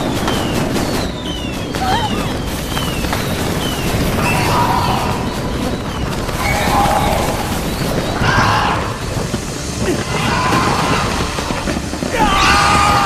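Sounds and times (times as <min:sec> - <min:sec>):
fireworks crackling and booming: 0:00.0 - 0:13.0
fireworks whistling: 0:00.0 - 0:13.0.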